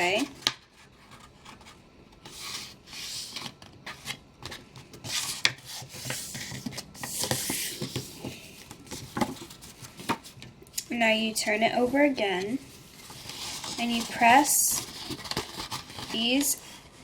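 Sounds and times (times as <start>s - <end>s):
paper rustling as folded: 0.0s - 10.5s, 11.8s - 17.0s.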